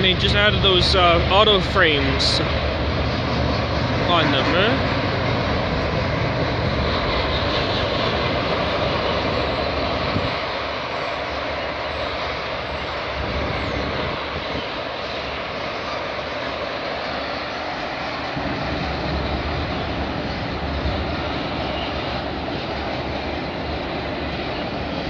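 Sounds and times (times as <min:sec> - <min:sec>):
train wheels rumbling on bridge: 0:00.0 - 0:25.0.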